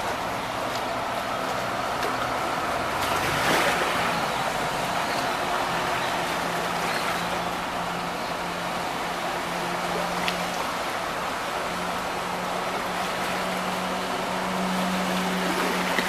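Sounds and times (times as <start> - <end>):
diesel engine humming: 0.0 - 16.0
water swishing from wheels: 0.0 - 16.0.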